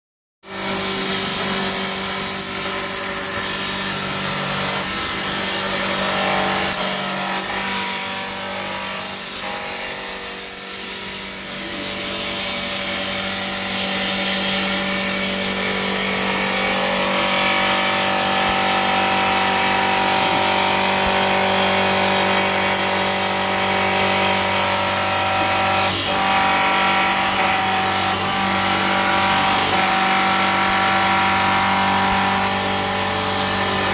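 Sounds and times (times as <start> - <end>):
wood cutting noise: 0.4 - 33.9
high bright whine: 0.5 - 33.9
lathe motor and spindle whine: 0.5 - 33.9.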